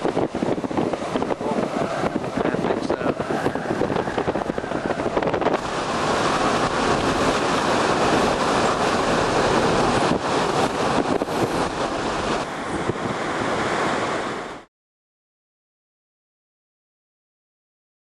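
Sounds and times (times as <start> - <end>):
driving rain: 0.0 - 14.7
strong wind: 0.0 - 14.7
wind buffeting microphone: 0.0 - 14.7.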